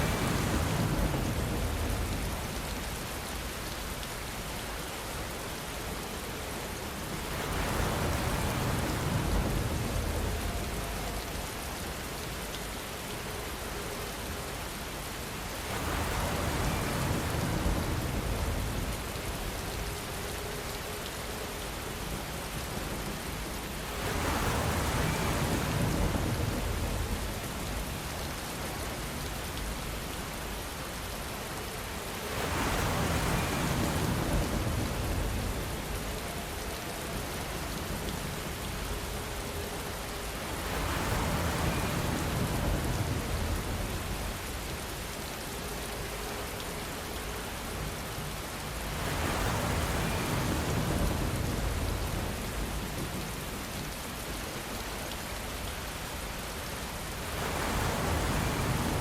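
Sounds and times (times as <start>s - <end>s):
steady rain on a surface: 0.0s - 59.0s.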